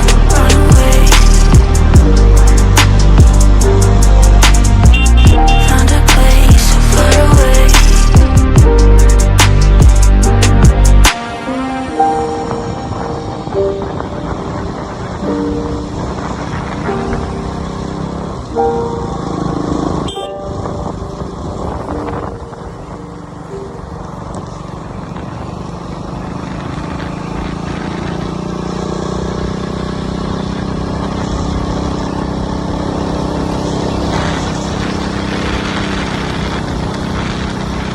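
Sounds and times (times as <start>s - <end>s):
motorcycle engine running: 0.0s - 11.2s, 12.5s - 37.9s
road noise: 0.0s - 37.9s.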